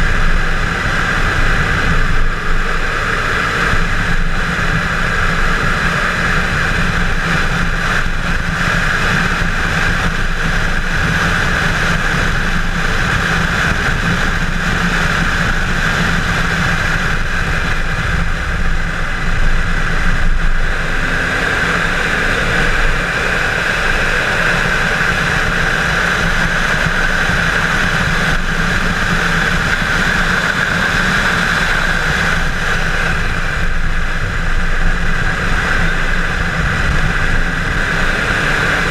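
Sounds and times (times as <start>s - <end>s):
car engine running hard: 0.0s - 38.9s
wind and road noise: 0.0s - 38.9s.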